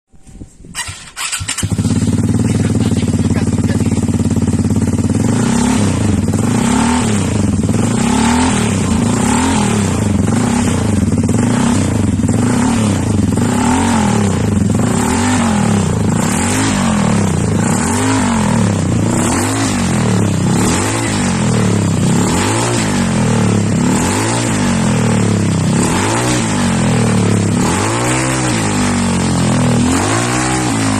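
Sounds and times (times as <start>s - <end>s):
scooter engine revving: 0.8s - 30.9s.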